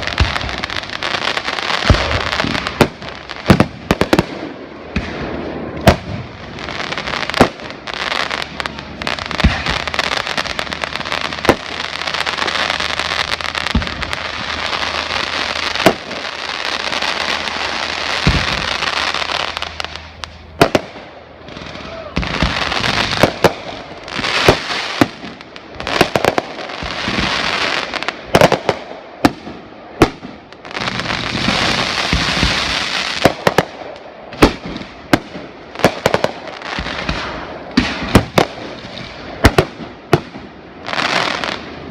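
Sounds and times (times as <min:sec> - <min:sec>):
fireworks bangs: 0:00.0 - 0:41.9
fireworks crackling: 0:00.0 - 0:41.9.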